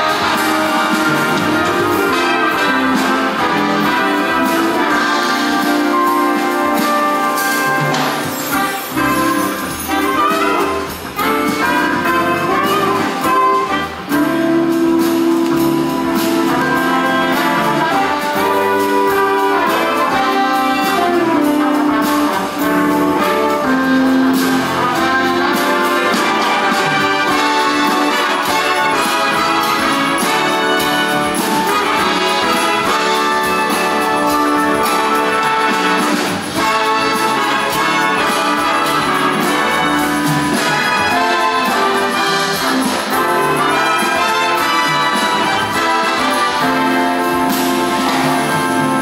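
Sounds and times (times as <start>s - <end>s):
instrumental brass music: 0.0s - 49.0s.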